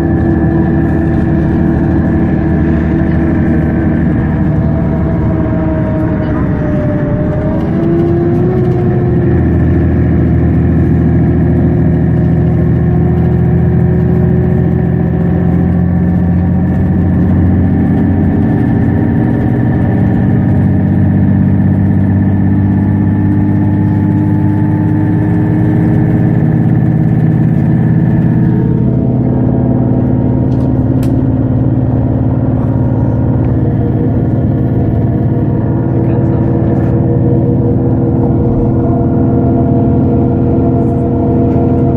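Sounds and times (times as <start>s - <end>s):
bus engine droning: 0.0s - 41.9s.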